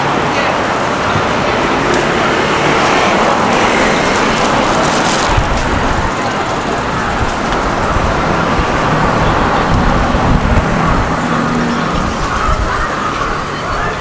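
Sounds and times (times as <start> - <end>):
vehicles passing on street: 0.0 - 14.0
faint engine hum: 0.3 - 14.0.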